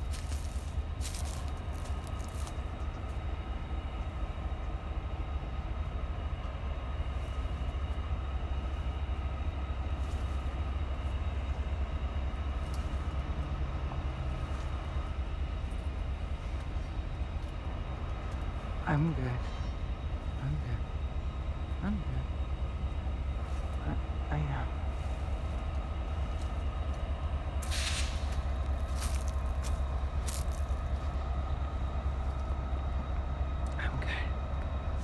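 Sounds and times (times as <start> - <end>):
freight train low rumble: 0.0 - 35.0.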